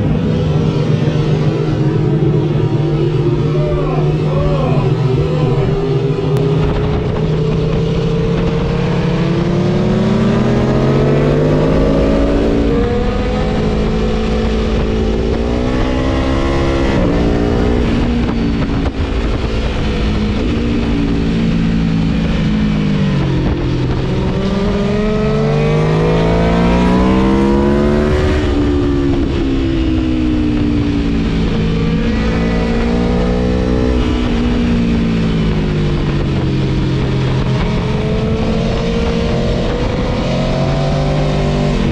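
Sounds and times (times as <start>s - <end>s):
motorcycle engine revving: 0.0s - 41.9s
wind noise: 0.0s - 41.9s.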